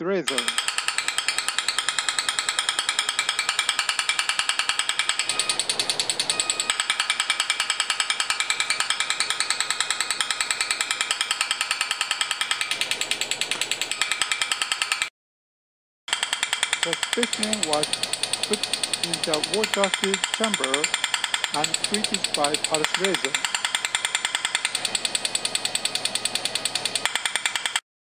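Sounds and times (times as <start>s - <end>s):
rapid even laser clicking: 0.3s - 15.1s, 16.1s - 27.8s.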